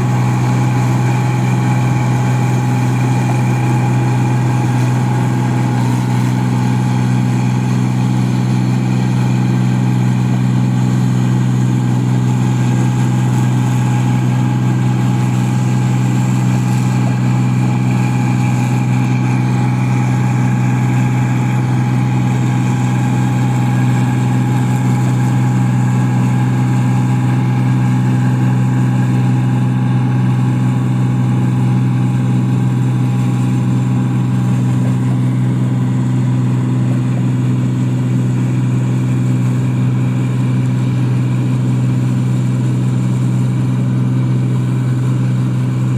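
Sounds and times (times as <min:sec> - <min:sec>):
mechanical drone: 0:00.0 - 0:40.6
thin steady whine: 0:00.0 - 0:45.9.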